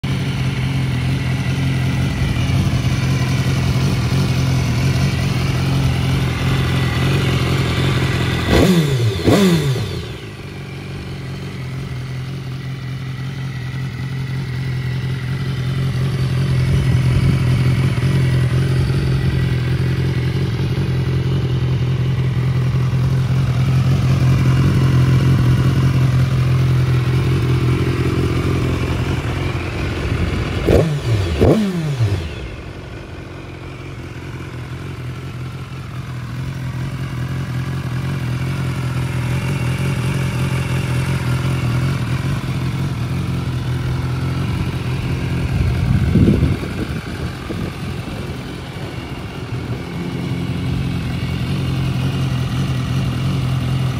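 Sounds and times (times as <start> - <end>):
motorcycle engine idling and revving: 0.0 - 53.9.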